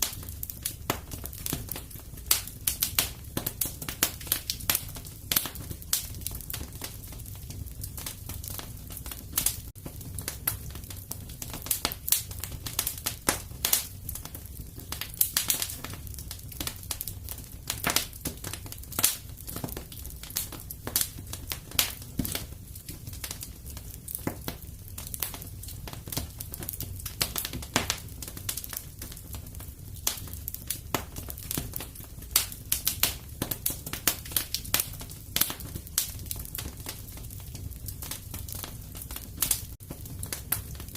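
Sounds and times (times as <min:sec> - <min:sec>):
fire crackling in a fireplace: 0:00.0 - 0:40.9.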